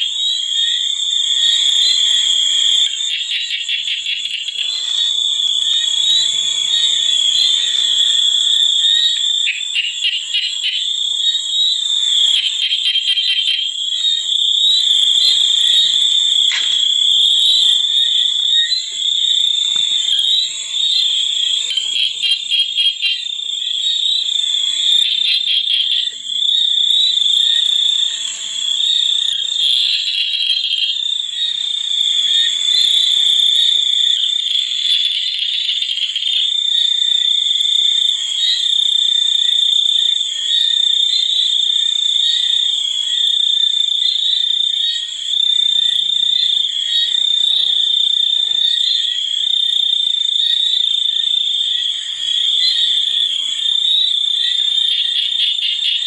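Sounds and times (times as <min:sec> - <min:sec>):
fast pulsing frog calls: 0:00.0 - 0:56.0.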